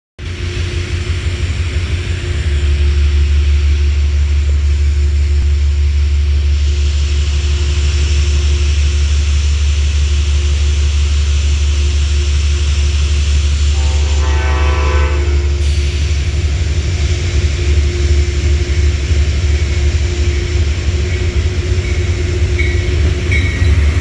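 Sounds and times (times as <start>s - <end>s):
steady hum: 0.2s - 20.8s
train engine idling: 0.2s - 24.0s.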